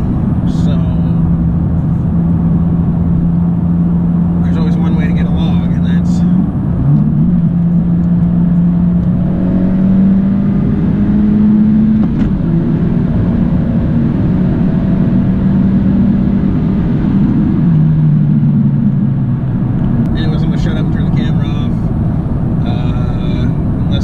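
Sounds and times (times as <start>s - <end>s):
turbocharged engine at full throttle: 0.0s - 24.0s.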